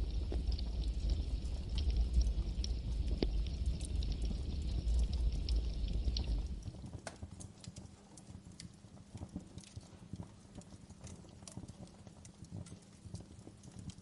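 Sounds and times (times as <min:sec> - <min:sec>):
low rumble of flames: 0:00.0 - 0:14.0.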